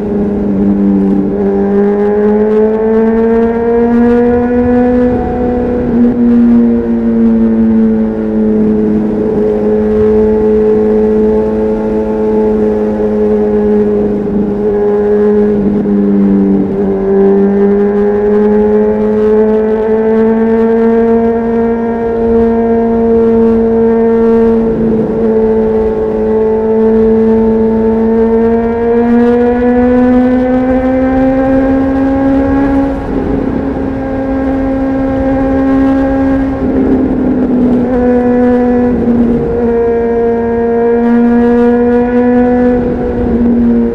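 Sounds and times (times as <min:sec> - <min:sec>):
motorcycle engine revving high: 0:00.0 - 0:43.9.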